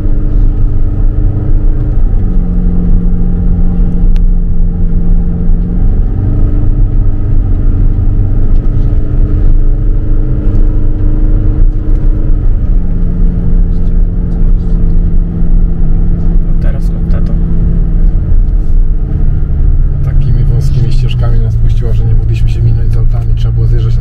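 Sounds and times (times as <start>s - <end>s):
car engine hum: 0.0s - 24.0s
road rumble: 0.0s - 24.0s.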